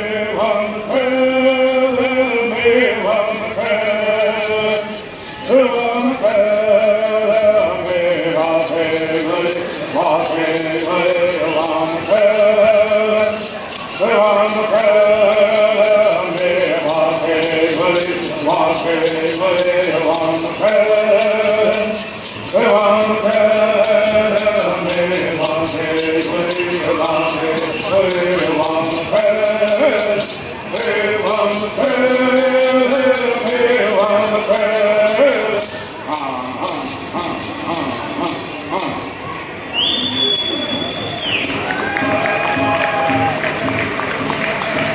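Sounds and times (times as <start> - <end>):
men singing in unison: 0.0 - 39.2
gourd rattles shaking: 0.0 - 44.9.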